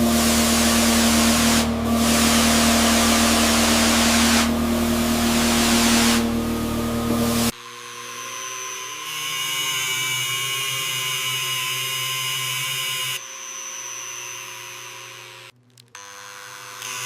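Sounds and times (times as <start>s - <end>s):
power tool whining: 0.0s - 17.0s.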